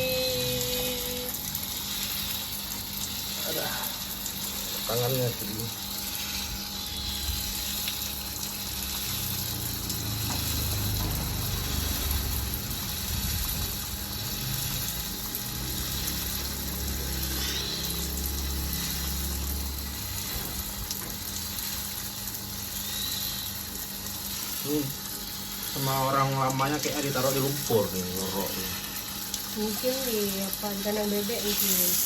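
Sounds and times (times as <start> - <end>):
running water splashing: 0.0 - 32.0.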